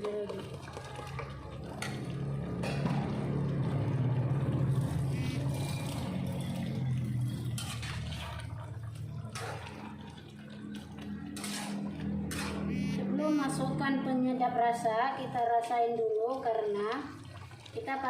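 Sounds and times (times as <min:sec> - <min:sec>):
liquid bubbling in pan: 0:00.0 - 0:12.8, 0:14.7 - 0:18.0.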